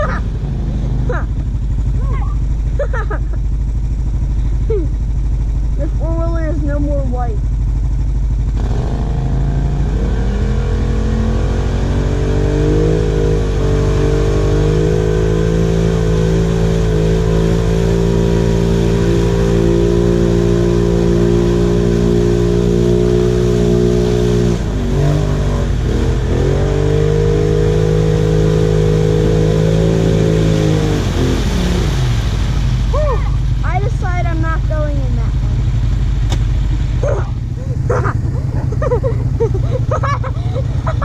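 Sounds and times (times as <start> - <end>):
quad bike engine running: 0.0 - 41.0.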